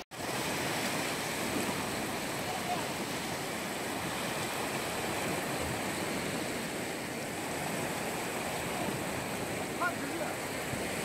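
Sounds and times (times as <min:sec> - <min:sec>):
waves washing onto shore: 0:00.0 - 0:11.0.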